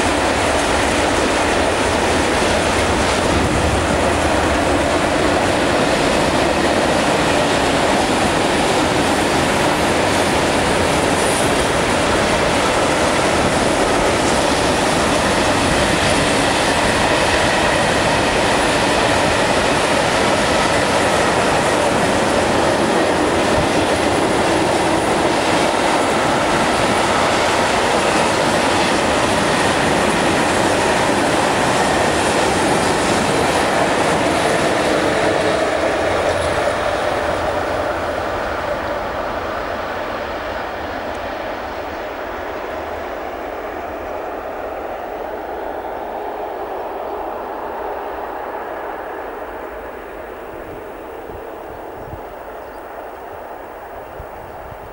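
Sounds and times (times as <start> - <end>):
train wheels running on rails: 0.0 - 54.9.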